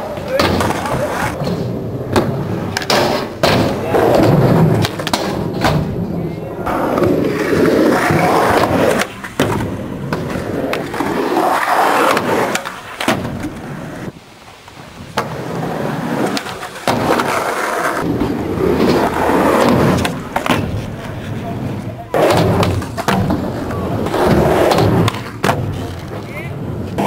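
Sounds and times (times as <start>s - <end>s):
skateboard clacking on ground: 0.0s - 14.1s, 14.7s - 27.0s
skateboard wheels rolling: 0.0s - 27.0s.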